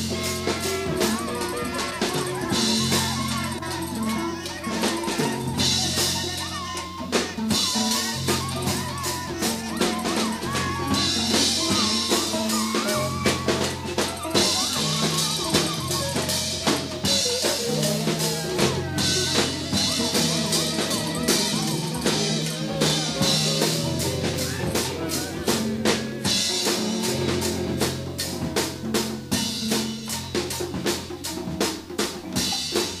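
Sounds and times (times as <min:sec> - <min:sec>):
wavering melodic line: 0:00.0 - 0:31.0
drum kit beat: 0:00.0 - 0:33.0.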